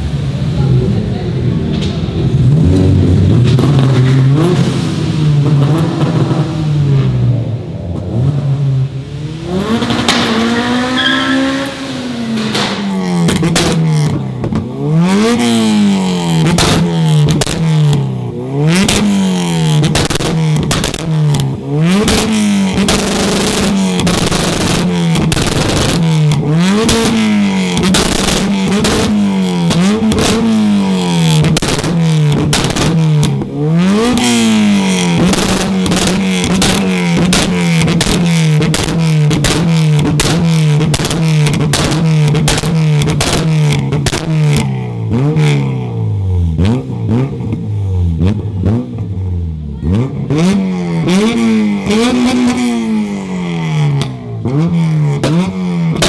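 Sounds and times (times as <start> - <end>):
car engine revving: 0.0 - 56.0
exhaust crackles: 0.0 - 56.0.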